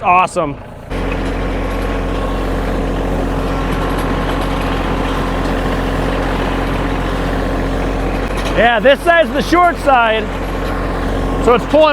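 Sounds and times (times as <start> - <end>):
tractor diesel engine under load: 0.0 - 11.9.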